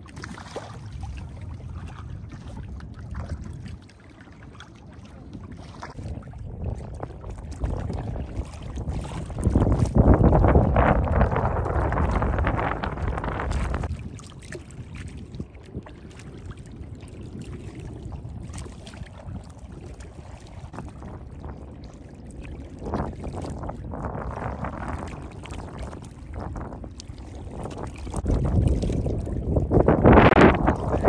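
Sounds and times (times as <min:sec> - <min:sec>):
water swishing around a paddle: 0:00.0 - 0:31.0
wind rumbling on microphone: 0:00.0 - 0:31.0.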